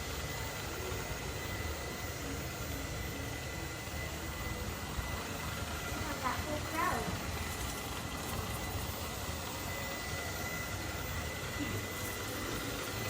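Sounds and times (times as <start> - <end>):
robot vacuum motor hum: 0.0 - 13.0.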